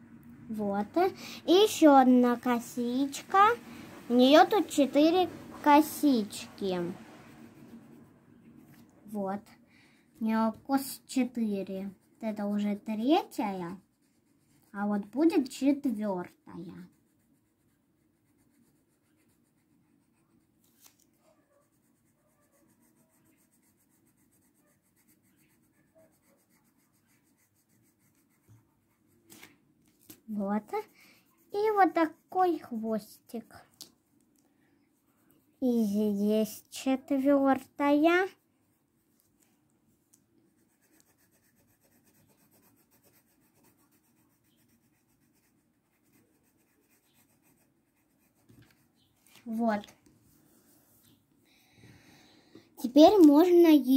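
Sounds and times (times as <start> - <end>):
pencil scratching on paper: 0.8 - 9.5, 10.2 - 33.7, 35.0 - 39.2, 40.5 - 51.2.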